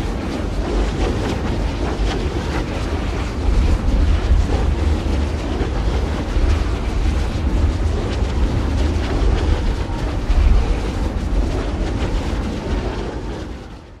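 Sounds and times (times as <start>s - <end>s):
heavy low rumble: 0.0s - 14.0s
strong wind gusting: 0.0s - 14.0s.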